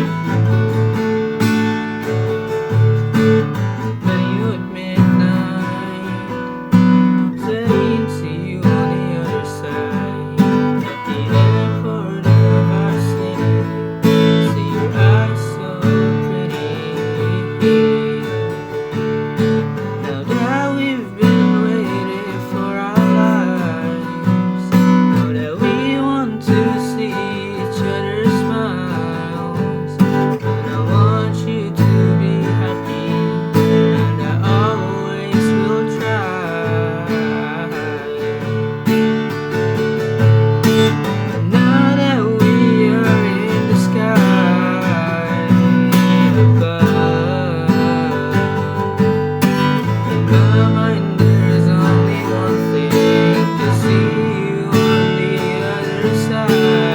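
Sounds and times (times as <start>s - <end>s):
strummed acoustic guitar: 0.0s - 56.9s.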